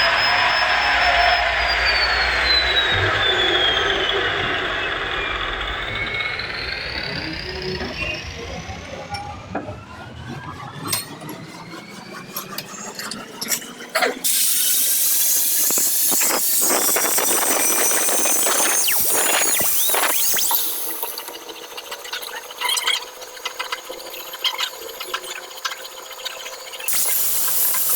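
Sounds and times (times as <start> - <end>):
angle grinder whining: 0.0 - 27.9.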